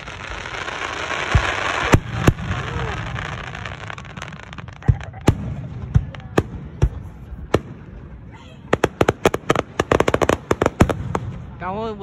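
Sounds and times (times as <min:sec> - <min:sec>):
firework booms: 0:00.0 - 0:11.6
firework crackling: 0:00.0 - 0:12.0.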